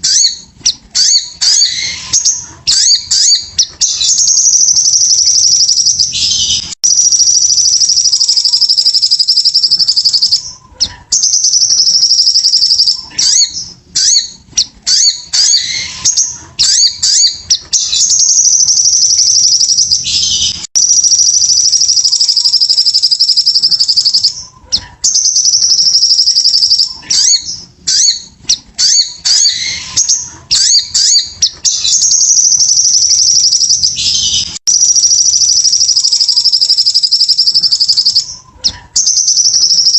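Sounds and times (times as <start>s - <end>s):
bird singing fast high trills: 1.0s - 10.5s, 11.2s - 24.4s, 25.1s - 38.4s.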